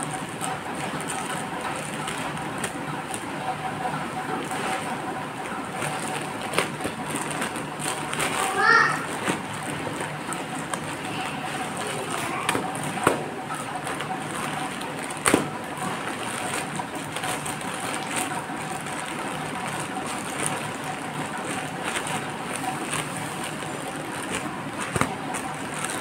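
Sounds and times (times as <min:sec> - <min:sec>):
plastic bag rustling and crinkling: 0:00.0 - 0:26.0
sharp plastic crackles: 0:00.0 - 0:26.0.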